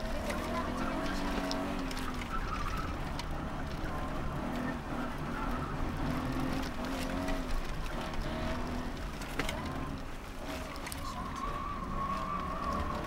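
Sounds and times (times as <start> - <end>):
car engine revving: 0.0 - 13.0
road and wind noise: 0.0 - 13.0.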